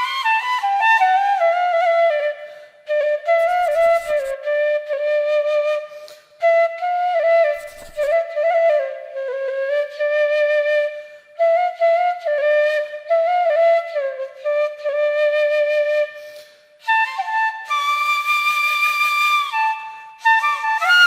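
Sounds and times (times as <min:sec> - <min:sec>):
flute playing slow melody: 0:00.0 - 0:21.0.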